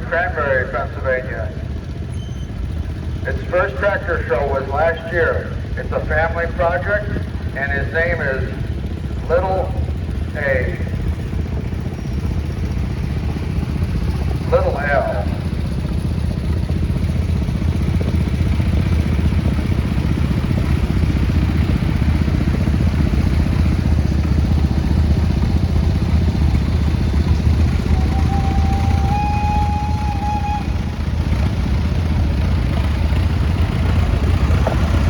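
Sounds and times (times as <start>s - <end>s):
tractor engines rumbling: 0.0s - 35.0s.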